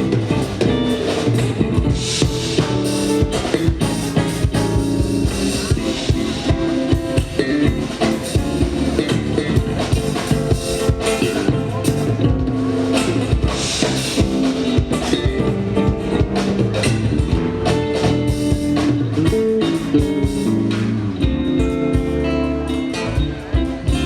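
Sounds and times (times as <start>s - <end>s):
drum kit beat: 0.0s - 24.0s
live rock band playing: 0.0s - 24.0s.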